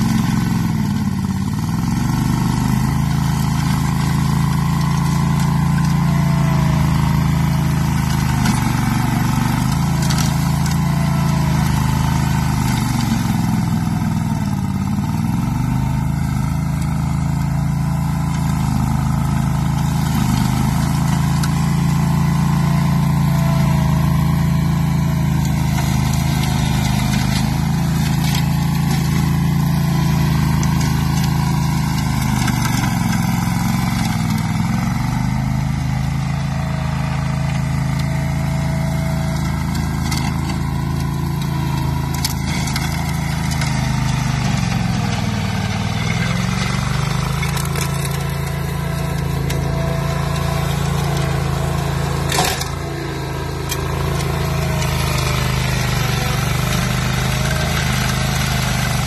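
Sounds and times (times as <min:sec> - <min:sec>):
ride-on mower engine running: 0:00.0 - 0:59.0.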